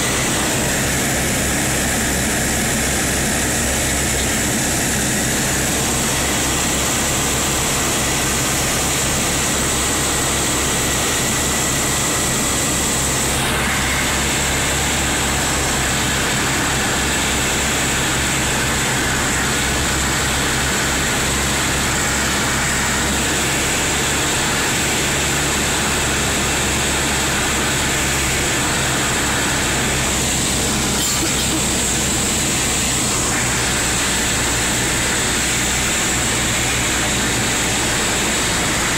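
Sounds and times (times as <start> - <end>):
twin propeller engines droning: 0.0 - 38.9.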